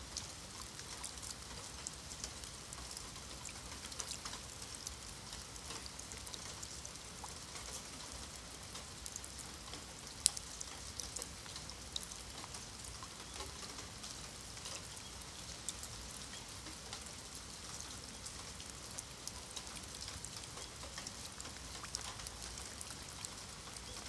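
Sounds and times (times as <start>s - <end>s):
rain on stone paving: 0.0s - 24.0s.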